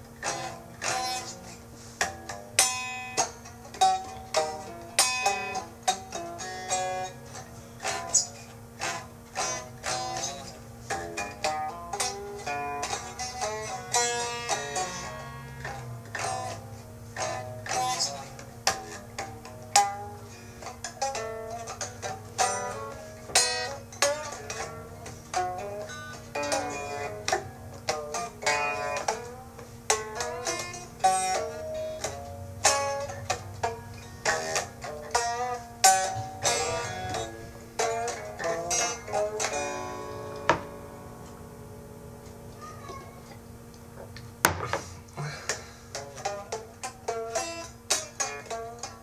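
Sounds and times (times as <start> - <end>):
plucked string instrument notes: 0.0 - 49.0
steady low hum: 0.0 - 49.0.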